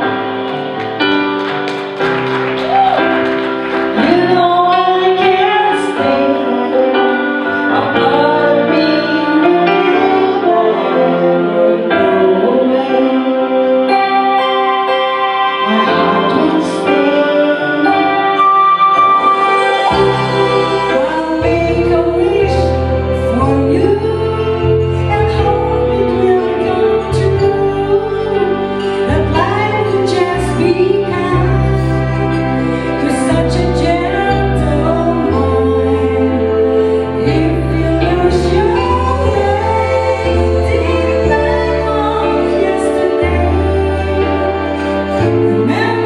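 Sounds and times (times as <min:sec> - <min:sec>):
bass: 0:00.0 - 0:13.0, 0:15.7 - 0:46.0
keyboard chords: 0:00.0 - 0:46.0
woman singing into a microphone: 0:03.9 - 0:46.0.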